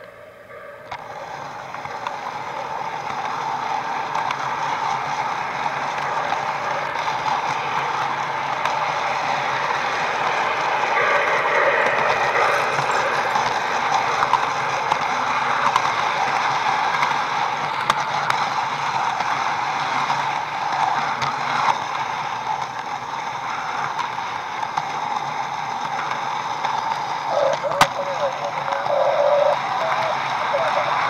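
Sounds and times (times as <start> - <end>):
model train motor rattle and hum: 0.0 - 31.0.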